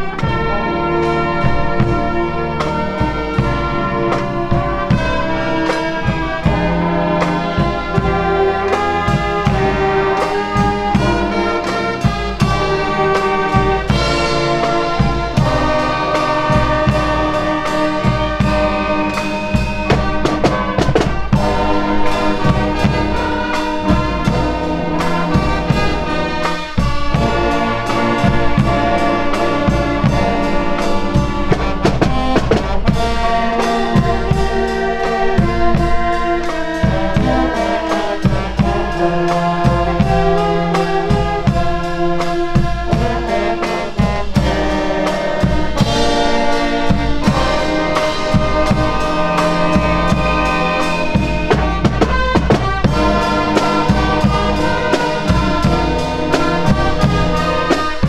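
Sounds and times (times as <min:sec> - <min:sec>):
brass playing melody: 0:00.0 - 0:58.0
snare and bass drum hits: 0:00.0 - 0:58.0.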